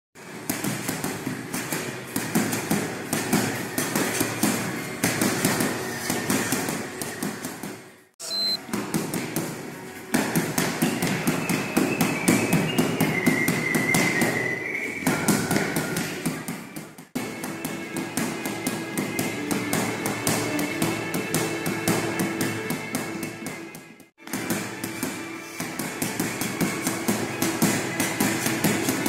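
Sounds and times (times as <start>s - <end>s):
boxing gloves thudding on punching pad: 0.3s - 7.8s, 8.7s - 14.4s, 15.0s - 29.0s.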